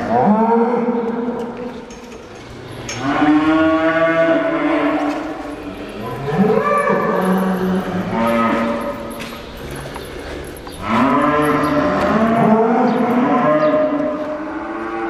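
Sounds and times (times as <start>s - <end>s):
cows mooing: 0.0s - 1.6s, 2.9s - 15.0s.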